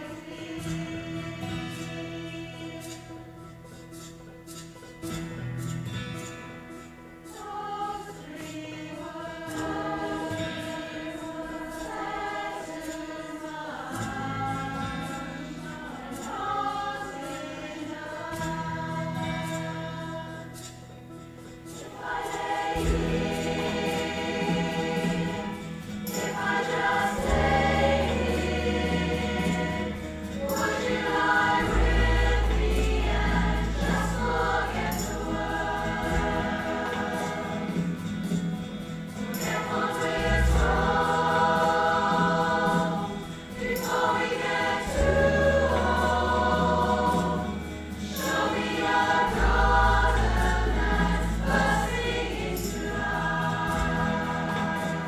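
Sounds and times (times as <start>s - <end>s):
choir singing: 0.0s - 4.1s, 7.2s - 55.0s.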